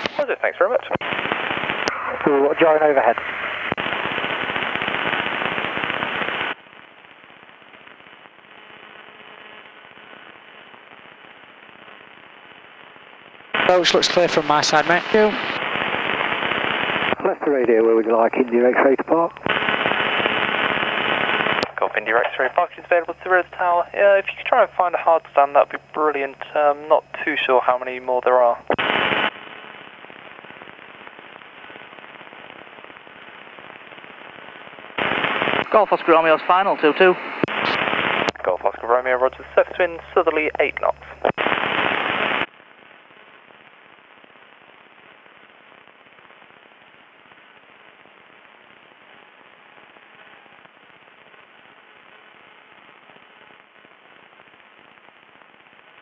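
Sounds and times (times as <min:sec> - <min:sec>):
faint steady hiss: 0:00.0 - 0:56.0
radio static crackling: 0:00.0 - 0:56.0.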